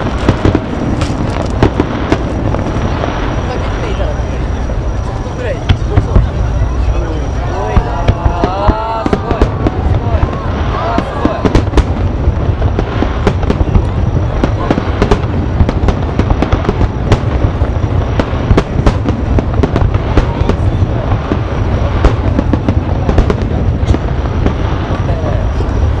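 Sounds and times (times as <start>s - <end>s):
fireworks bangs and crackles: 0.0s - 26.0s
low rumble: 0.0s - 26.0s.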